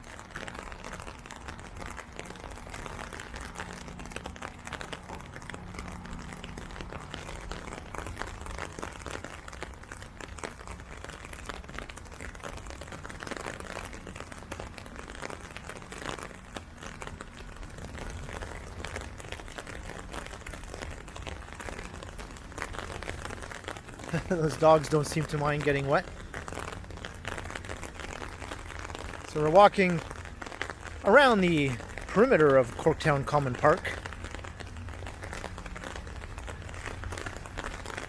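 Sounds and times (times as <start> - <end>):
heavy rain patter: 0.0 - 38.0.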